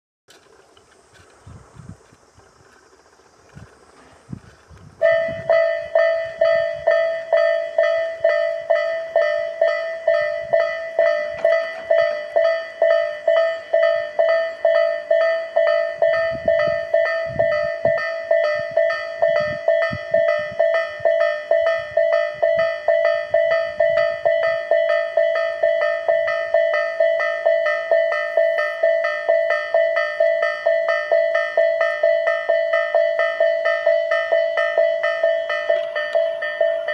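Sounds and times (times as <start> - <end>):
level-crossing warning bell clanging: 5.0 - 36.9.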